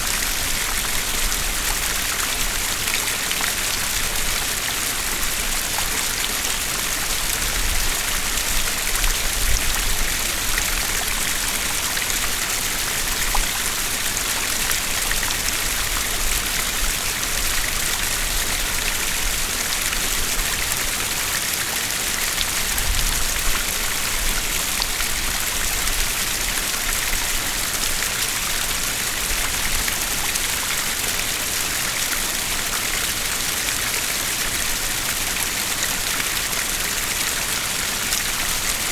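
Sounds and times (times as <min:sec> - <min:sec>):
streams flowing over rocks: 0:00.0 - 0:38.9.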